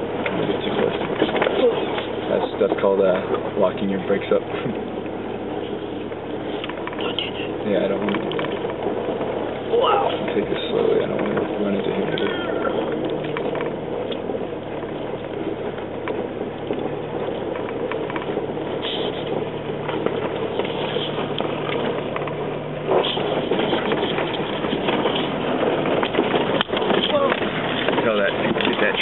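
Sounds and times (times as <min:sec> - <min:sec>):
low engine hum: 0:00.0 - 0:29.0
small rattles and clicks: 0:00.0 - 0:29.0
tyres crackling over snow: 0:00.0 - 0:29.0.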